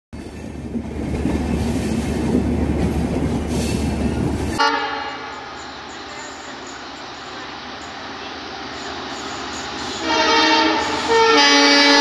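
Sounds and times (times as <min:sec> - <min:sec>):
train rumbling past: 0:00.2 - 0:12.0.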